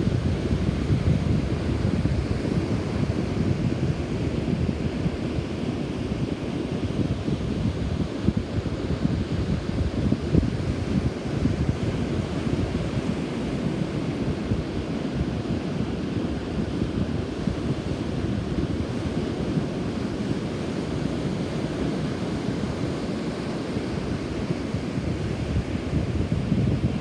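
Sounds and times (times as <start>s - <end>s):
wind buffeting microphone: 0.0s - 20.5s, 23.9s - 27.0s
rough surf washing onto beach: 0.0s - 27.0s.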